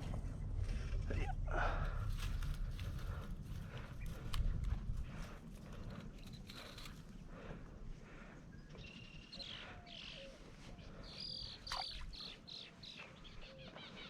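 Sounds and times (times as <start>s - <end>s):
birds chirping faintly: 1.5s - 14.0s.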